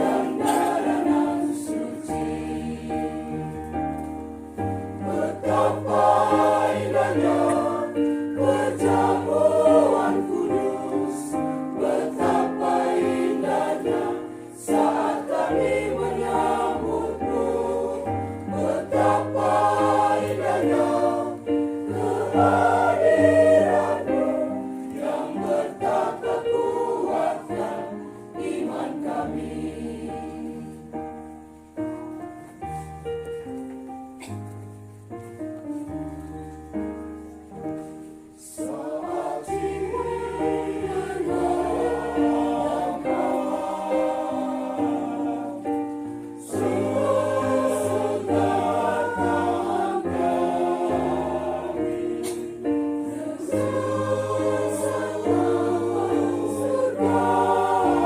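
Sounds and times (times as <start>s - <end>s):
choir singing a hymn: 0.0s - 32.0s, 37.2s - 58.0s.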